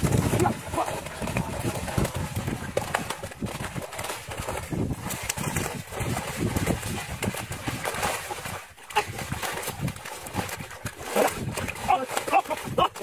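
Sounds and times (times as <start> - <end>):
fish flopping and slapping: 0.0 - 13.0.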